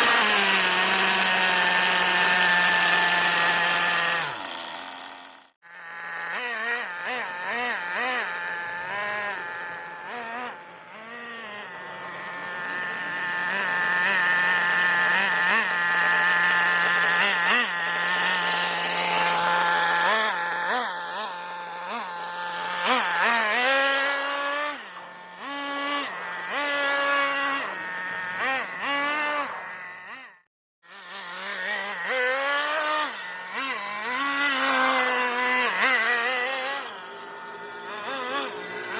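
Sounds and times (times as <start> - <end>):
small engine revving: 0.0 - 38.9.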